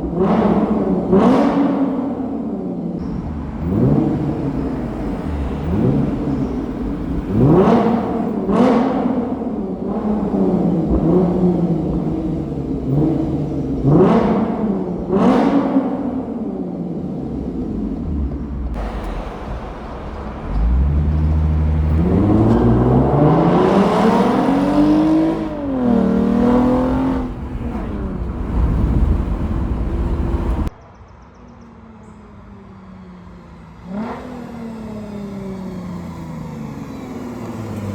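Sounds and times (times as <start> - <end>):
car engine accelerating: 0.0 - 30.7, 32.6 - 37.9.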